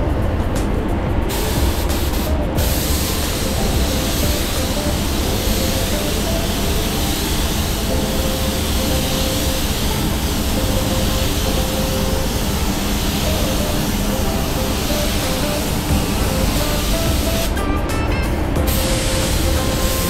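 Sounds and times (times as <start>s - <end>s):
spray gun compressed air rush: 1.3s - 17.6s, 18.7s - 20.0s.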